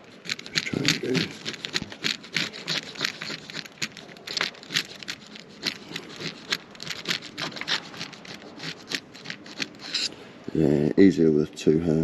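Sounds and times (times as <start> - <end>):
blade scraping sealant off hull: 0.0 - 10.1.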